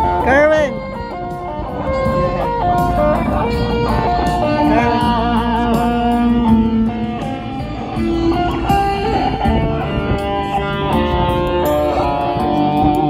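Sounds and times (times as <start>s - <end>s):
electric guitar lead melody: 0.0s - 13.0s.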